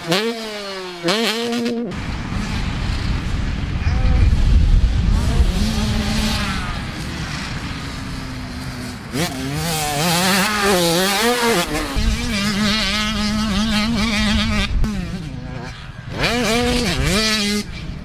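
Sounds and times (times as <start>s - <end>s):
dirt bike engine revving: 0.0s - 18.0s
dirt bike engine steady: 0.0s - 18.0s.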